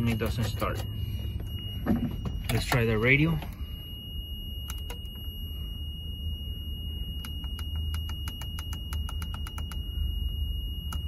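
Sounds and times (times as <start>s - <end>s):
steady high tone: 0.0s - 11.0s.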